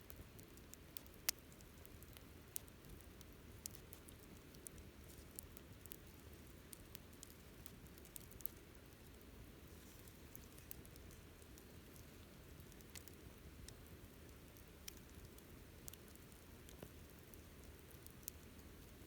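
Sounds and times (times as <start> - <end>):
campfire crackling: 0.1 - 19.0.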